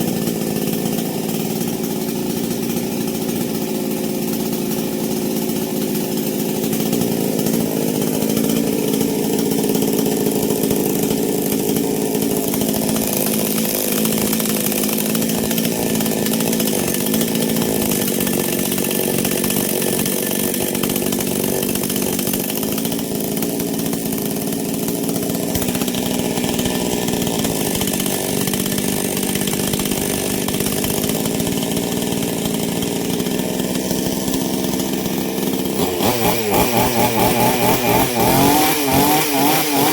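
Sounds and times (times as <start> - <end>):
two-stroke chainsaw engine running: 0.0 - 39.9.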